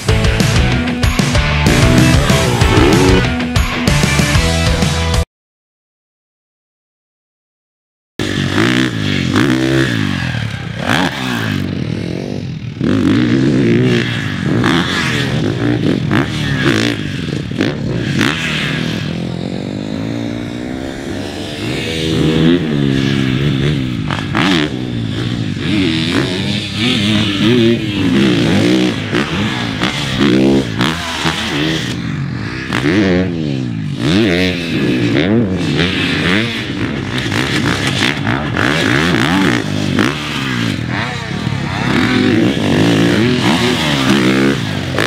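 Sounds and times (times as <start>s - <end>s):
motocross bike engine revving: 0.0s - 4.4s, 8.2s - 45.0s.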